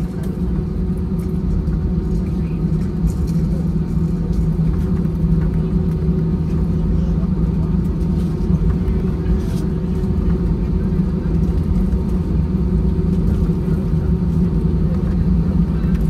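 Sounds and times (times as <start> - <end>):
aircraft cabin engine rumble and hum: 0.0 - 16.0.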